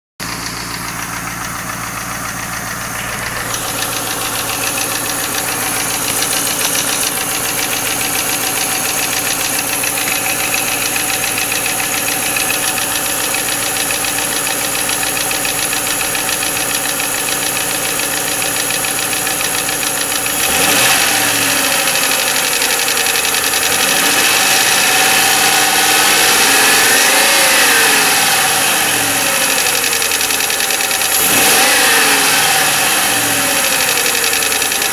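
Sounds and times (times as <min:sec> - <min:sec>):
car engine idling: 0:00.2 - 0:34.9
engine revving: 0:00.2 - 0:34.9
engine tapping: 0:00.2 - 0:34.9.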